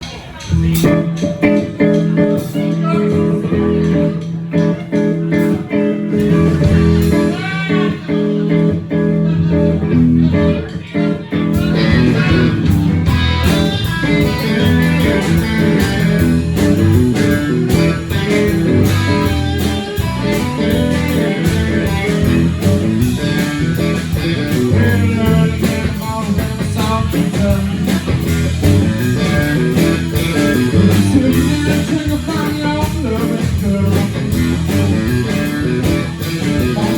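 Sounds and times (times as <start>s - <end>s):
blues-rock band playing: 0.0s - 36.9s
electric guitar bent notes: 0.0s - 36.9s.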